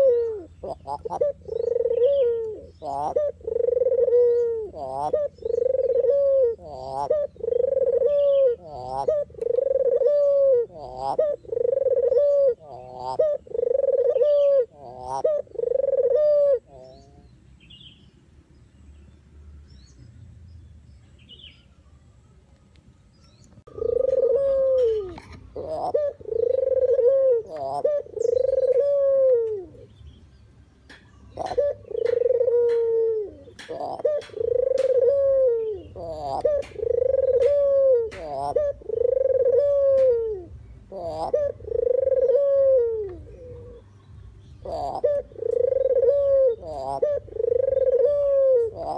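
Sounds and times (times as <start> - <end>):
dove cooing: 0.0 - 17.3, 23.7 - 30.0, 31.4 - 43.9, 44.5 - 48.9.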